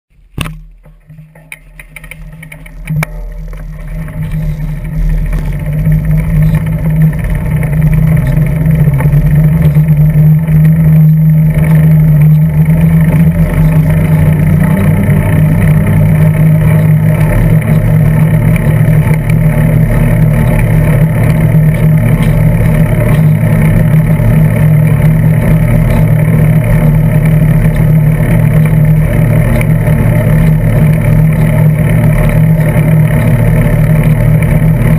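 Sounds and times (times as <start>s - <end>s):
bicycle frame vibration: 0.1s - 34.9s
bicycle tyres rumbling on asphalt: 0.2s - 34.9s.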